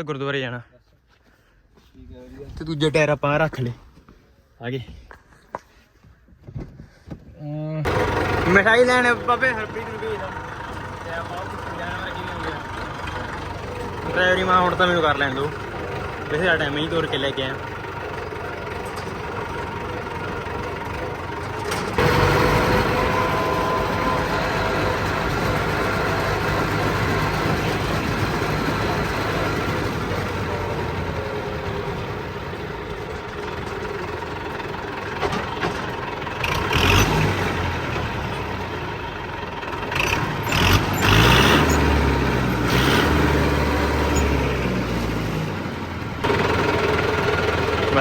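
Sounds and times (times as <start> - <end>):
tractor engine running: 7.9 - 48.0.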